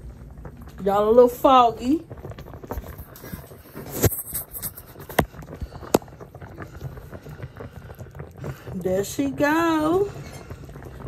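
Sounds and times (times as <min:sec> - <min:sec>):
liquid bubbling in a pot: 0:00.0 - 0:11.0.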